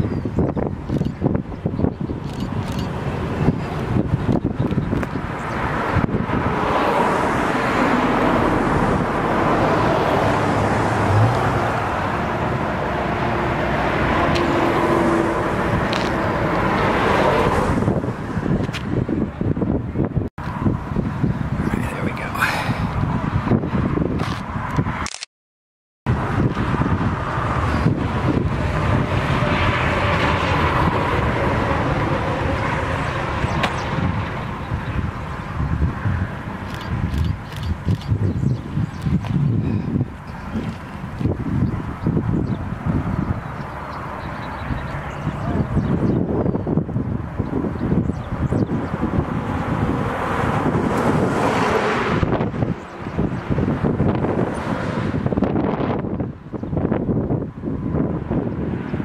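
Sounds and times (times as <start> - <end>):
road traffic rush: 0.0 - 25.3, 26.1 - 59.0
wind: 0.0 - 25.3, 26.1 - 59.0
truck and trailer passing: 0.3 - 25.0, 26.1 - 59.0.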